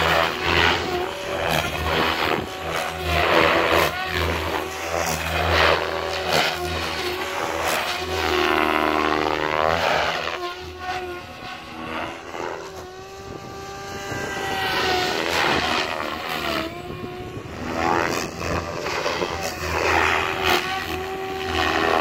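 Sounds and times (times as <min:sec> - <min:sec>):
rc helicopter motor whining: 0:00.0 - 0:22.0
rotor blades chopping: 0:00.0 - 0:22.0.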